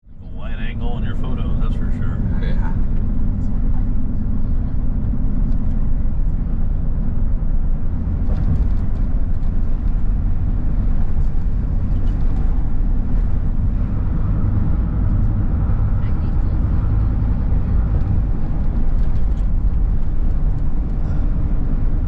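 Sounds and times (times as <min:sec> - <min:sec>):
loud low rumble: 0:00.0 - 0:22.0.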